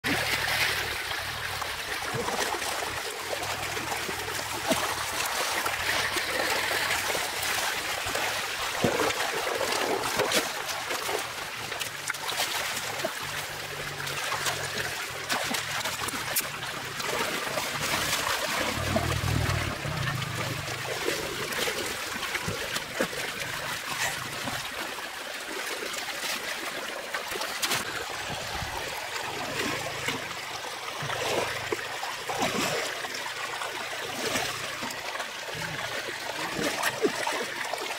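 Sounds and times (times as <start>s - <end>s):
water splashes: 0.0s - 37.9s.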